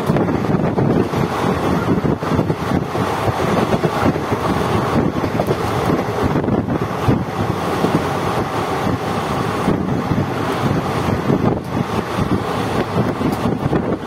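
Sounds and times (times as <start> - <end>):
train wheels rumbling on rails: 0.0 - 14.0
wind buffeting microphone: 0.0 - 14.0.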